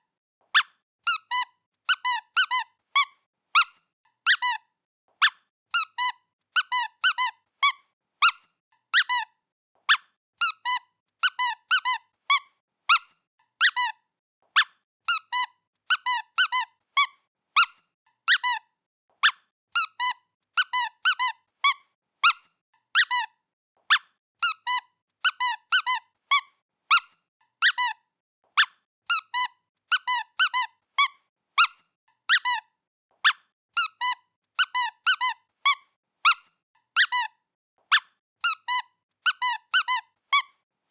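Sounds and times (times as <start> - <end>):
squeaky toy squeaking: 0.5 - 28.0, 28.6 - 40.6.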